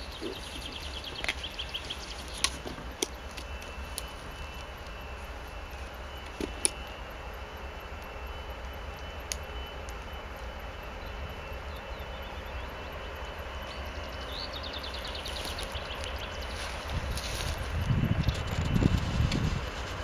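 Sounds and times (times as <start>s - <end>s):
diesel locomotive engine drone: 0.0s - 20.0s.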